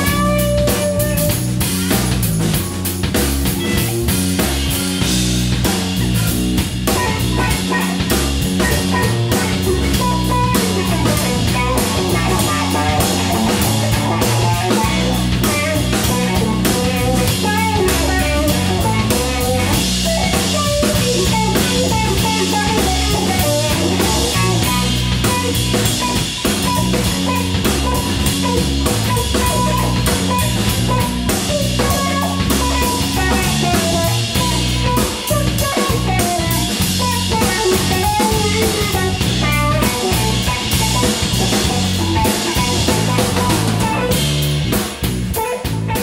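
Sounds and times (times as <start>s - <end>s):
bass line: 0.0s - 46.0s
drum kit beat: 0.0s - 46.0s
electric guitar lead: 0.0s - 46.0s.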